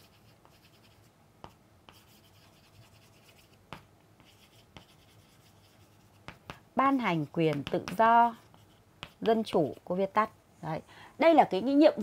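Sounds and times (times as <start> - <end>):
chalk scratching on chalkboard: 0.0 - 9.8
chalk tapping on board: 0.0 - 9.8.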